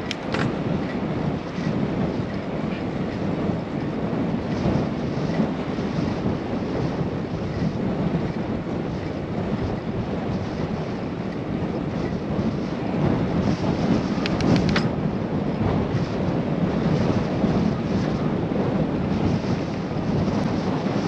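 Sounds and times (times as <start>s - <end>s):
wind rushing on microphone: 0.0s - 21.0s.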